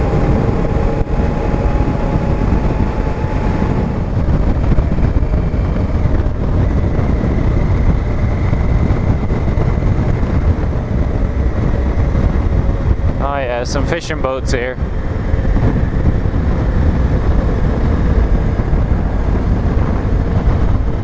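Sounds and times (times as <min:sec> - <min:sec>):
motorcycle engine running: 0:00.0 - 0:13.2, 0:14.8 - 0:21.0
faint steady whine: 0:00.0 - 0:21.0
wind rushing over microphone: 0:00.0 - 0:21.0.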